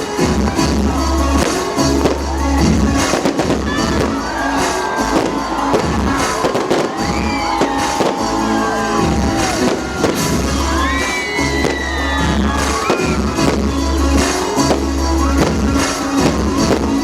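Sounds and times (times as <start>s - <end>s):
fireworks bangs and crackle: 0.0s - 17.0s
loud music with heavy bass: 0.0s - 17.0s.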